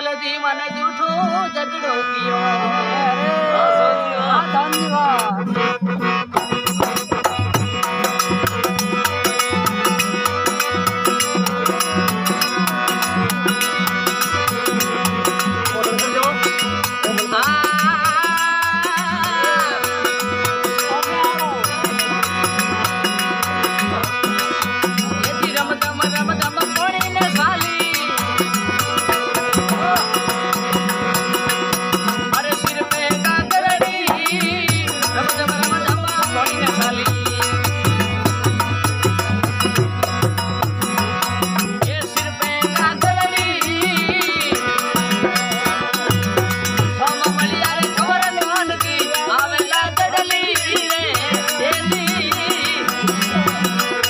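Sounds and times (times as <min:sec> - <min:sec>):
sustained melodic instrument: 0:00.0 - 0:54.0
rattling percussion: 0:04.7 - 0:54.0
drum beat: 0:06.3 - 0:54.0.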